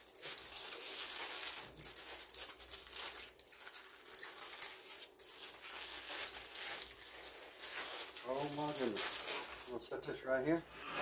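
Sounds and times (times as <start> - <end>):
aluminium foil crinkling: 0.0 - 10.6.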